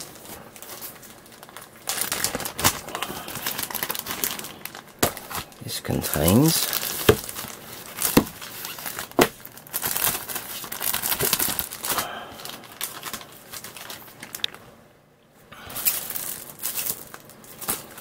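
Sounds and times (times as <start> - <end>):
plastic bags crinkling: 0.0 - 14.7, 15.7 - 18.0.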